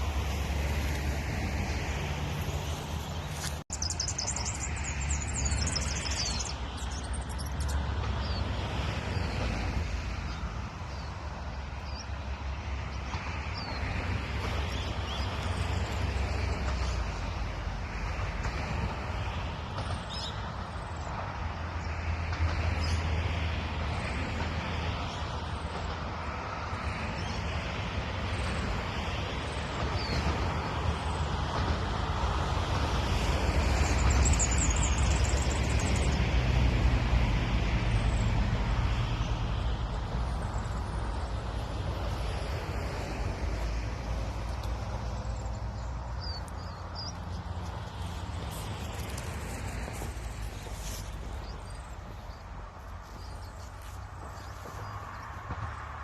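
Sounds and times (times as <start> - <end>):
loud steady outdoor rumble: 0.0 - 56.0.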